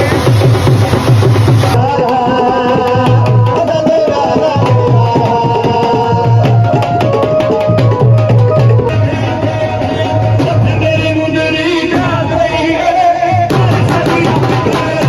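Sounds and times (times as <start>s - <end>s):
repeating drum beat: 0.0s - 15.0s.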